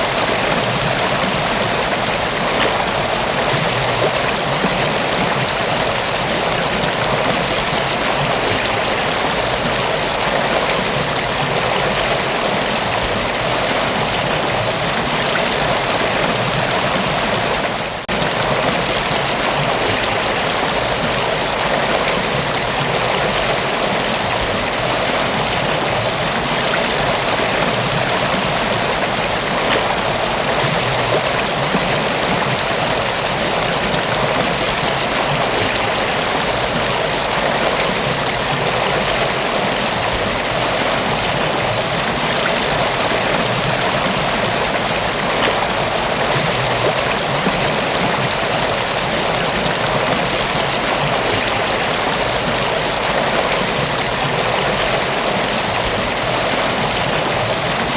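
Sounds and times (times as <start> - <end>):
waterfall rushing and splashing: 0.0 - 57.9.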